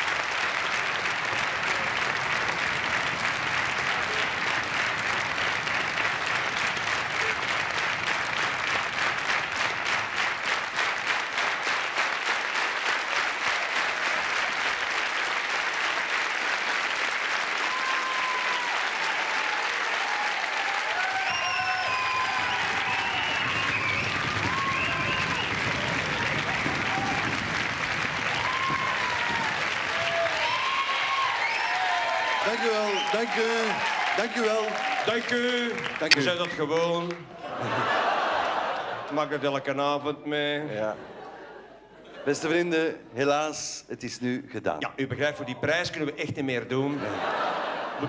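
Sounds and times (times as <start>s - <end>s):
audience applauding: 0.0s - 39.4s.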